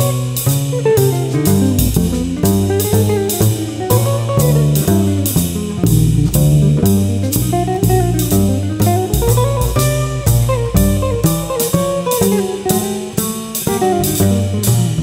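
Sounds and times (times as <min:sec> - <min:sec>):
drum kit cymbal beat: 0:00.0 - 0:15.0
electric guitar melody: 0:00.0 - 0:15.0
upright bass: 0:00.0 - 0:15.0.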